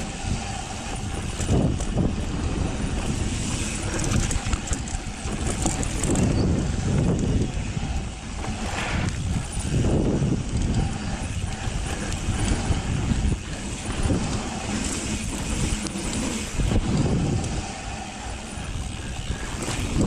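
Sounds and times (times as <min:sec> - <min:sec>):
wind buffeting microphone: 0:00.0 - 0:20.0
tyres rattling on dirt: 0:00.1 - 0:20.0.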